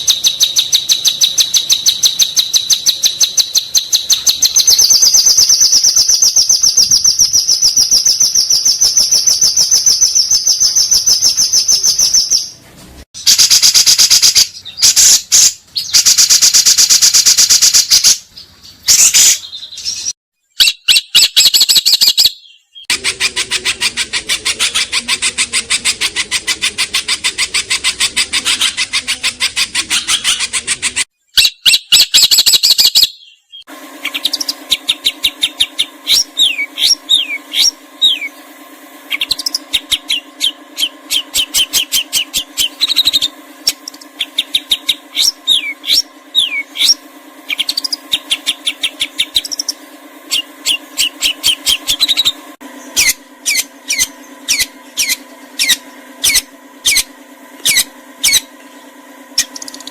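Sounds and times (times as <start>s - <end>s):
steady low hum: 0.0s - 20.2s, 22.9s - 31.1s, 33.6s - 59.9s
cage bird chirps and trills: 0.0s - 59.9s.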